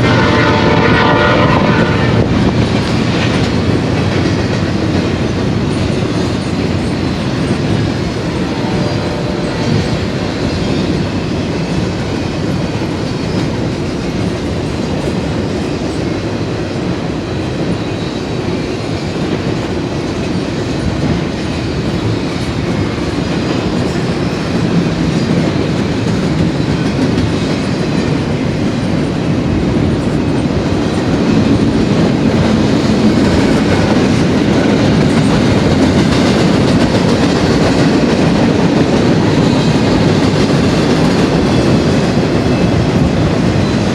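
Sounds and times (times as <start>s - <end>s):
train cars rolling on rails: 0.0s - 43.9s.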